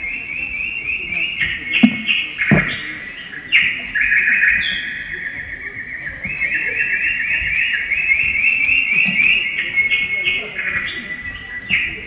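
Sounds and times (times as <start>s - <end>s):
high-pitched bird-like chirping: 0.0s - 12.0s.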